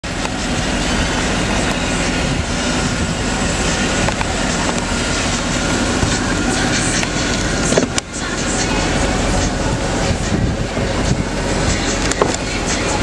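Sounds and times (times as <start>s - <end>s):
vehicle rumble and hiss: 0.0s - 13.0s.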